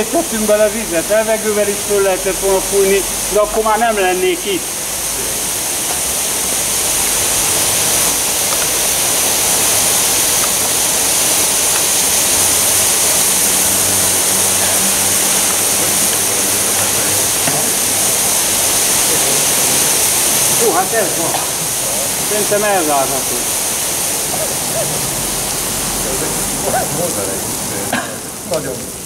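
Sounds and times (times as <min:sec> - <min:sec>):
water jets hissing: 0:00.0 - 0:29.0.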